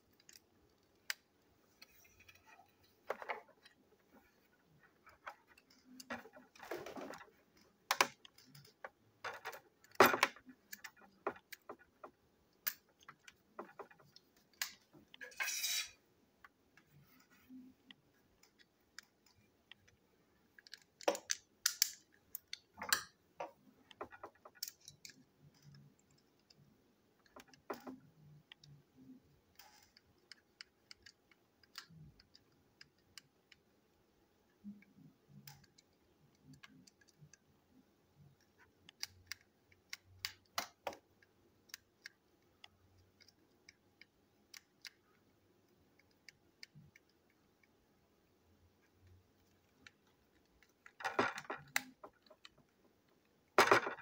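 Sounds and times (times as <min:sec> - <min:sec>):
plastic toy parts clicking: 0:00.1 - 0:03.8, 0:05.0 - 0:16.9, 0:17.5 - 0:33.8, 0:34.6 - 0:37.5, 0:38.2 - 0:47.8, 0:48.6 - 0:54.0.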